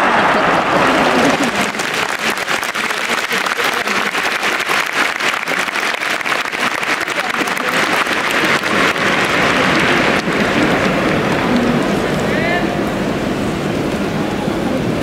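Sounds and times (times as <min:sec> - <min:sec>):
crowd applauding: 0:00.0 - 0:15.0
rushing noise: 0:00.0 - 0:15.0.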